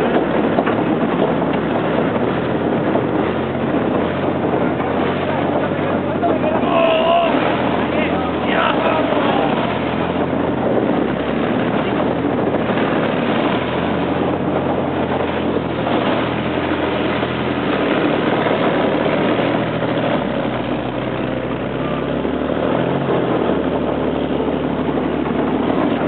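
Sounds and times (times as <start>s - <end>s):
tracked vehicle engine running: 0.0s - 26.0s.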